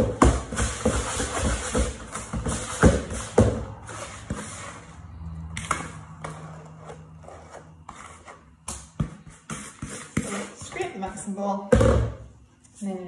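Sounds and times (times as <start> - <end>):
spoon scraping bowl: 0.6 - 11.0.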